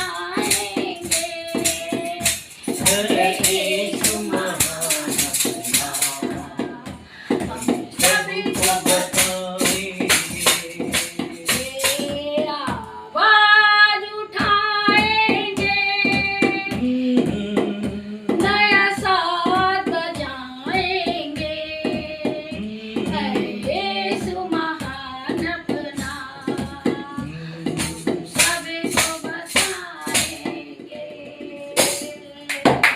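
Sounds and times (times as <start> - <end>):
percussion beat: 0.0 - 32.9
woman singing devotional song: 0.0 - 32.9.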